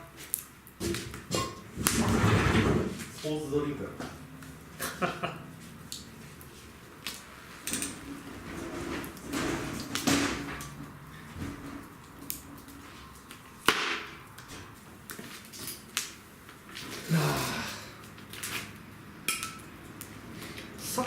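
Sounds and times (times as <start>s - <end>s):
wood fire crackling and popping: 0.0s - 2.4s, 4.0s - 21.0s.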